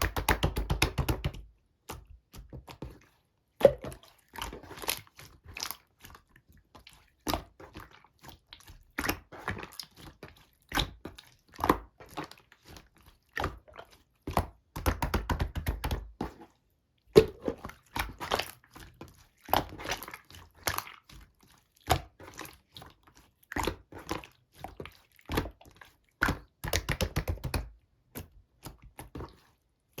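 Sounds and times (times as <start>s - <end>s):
slime squelching: 0.0s - 30.0s.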